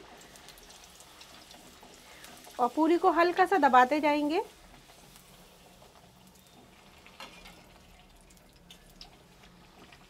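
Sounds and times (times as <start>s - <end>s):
bread deep-frying in oil: 0.0s - 10.0s.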